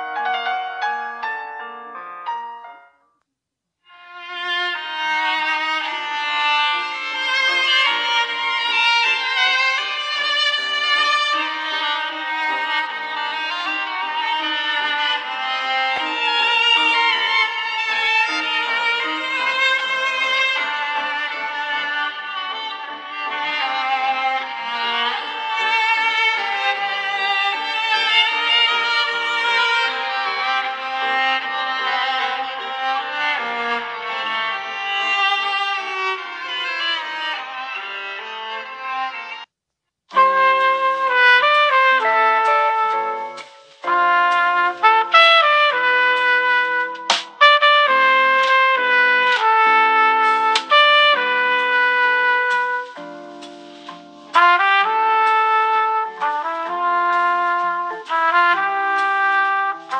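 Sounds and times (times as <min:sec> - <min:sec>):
violin ringtone melody: 0:03.9 - 0:39.5, 0:40.1 - 0:59.9.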